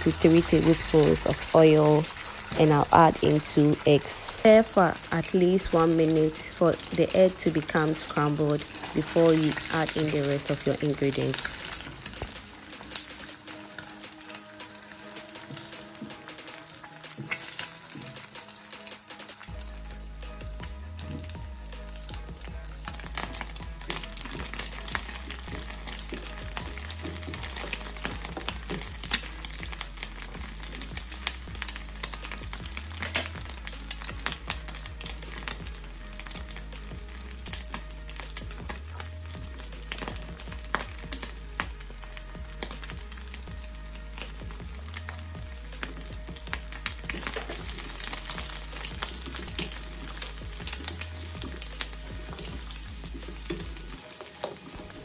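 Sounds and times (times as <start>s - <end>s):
food sizzling in frying pan: 0.0s - 55.0s.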